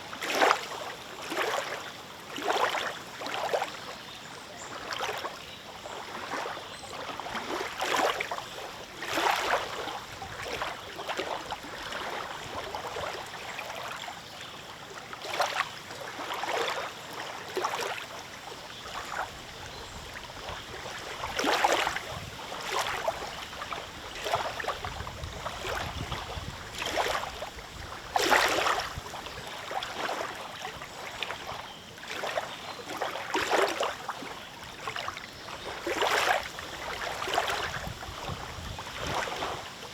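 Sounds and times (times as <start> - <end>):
lake waves lapping: 0.0 - 39.9.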